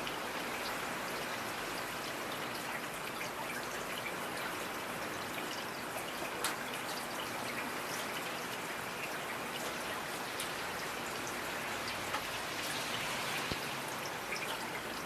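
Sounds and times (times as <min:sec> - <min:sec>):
faint trickle of water: 0:00.0 - 0:15.0
steady rainfall: 0:00.0 - 0:15.0.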